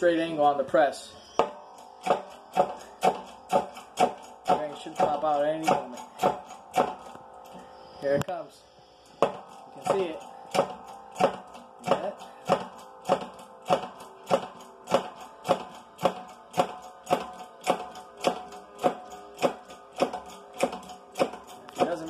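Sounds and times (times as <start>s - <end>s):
hydraulic press pumping: 1.3s - 8.3s, 9.0s - 22.0s.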